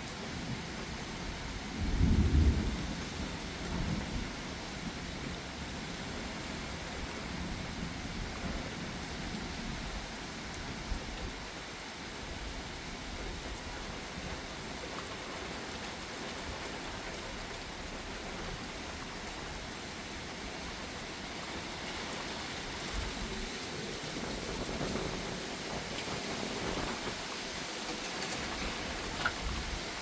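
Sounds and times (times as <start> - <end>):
heavy rain: 0.0 - 30.0
raindrops pattering on surfaces: 0.0 - 30.0.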